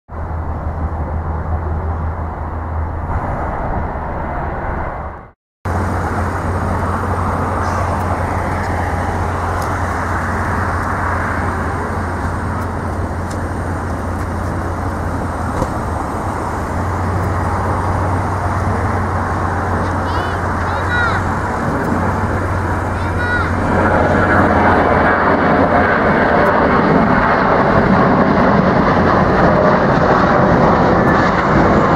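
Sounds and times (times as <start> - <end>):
jet engines roaring at takeoff: 0.2 - 31.9.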